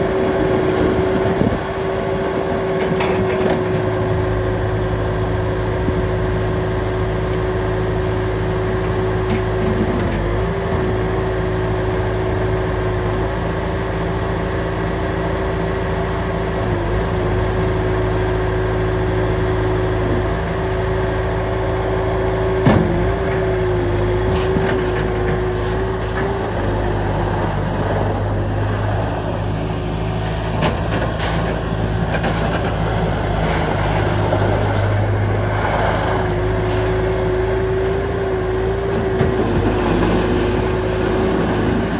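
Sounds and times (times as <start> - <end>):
loader engine running with whine: 0.0 - 41.9.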